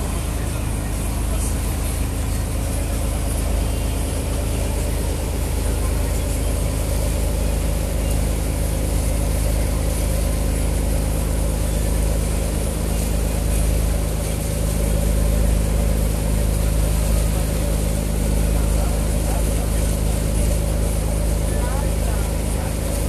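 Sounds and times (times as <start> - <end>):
boat engine drone: 0.0 - 23.0
wind: 0.0 - 23.0.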